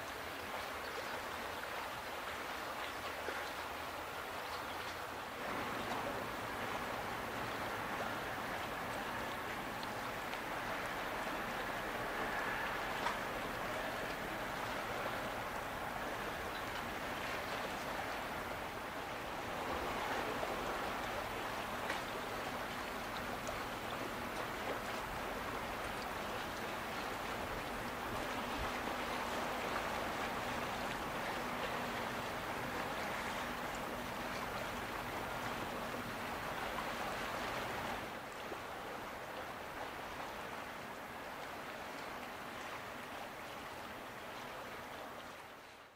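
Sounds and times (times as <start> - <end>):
water splashing and rushing: 0.0 - 45.9
boat engine low hum: 4.2 - 45.8.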